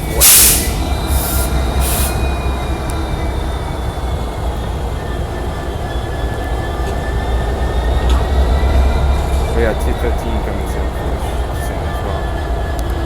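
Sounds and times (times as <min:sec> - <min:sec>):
freight train rumbling past: 0:00.0 - 0:13.0
wheel squeal: 0:00.0 - 0:13.0.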